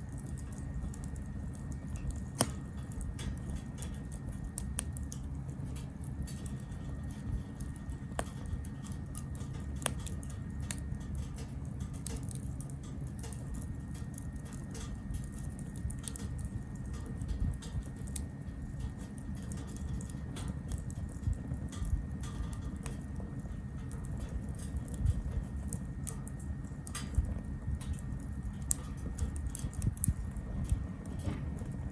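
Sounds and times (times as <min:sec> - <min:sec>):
low steady rumble: 0:00.0 - 0:31.9
wood fire crackling: 0:00.0 - 0:31.9.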